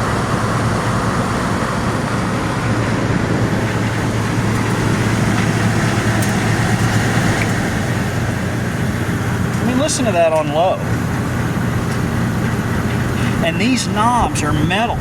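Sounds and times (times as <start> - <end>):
air conditioner fan rushing: 0.0 - 15.0
compressor low hum: 0.0 - 15.0.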